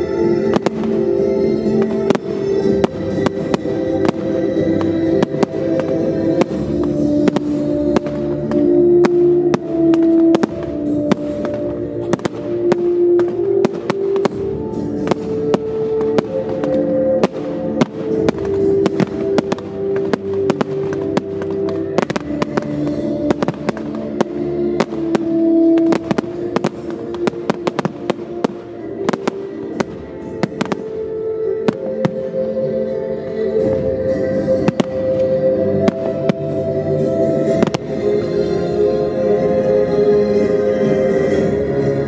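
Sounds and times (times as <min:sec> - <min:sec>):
fireworks bursting: 0:00.0 - 0:38.8
music with long held notes: 0:00.0 - 0:42.0.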